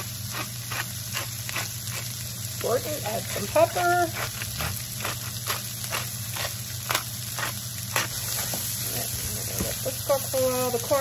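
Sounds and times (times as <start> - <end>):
vegetables sizzling in butter: 0.0 - 11.0.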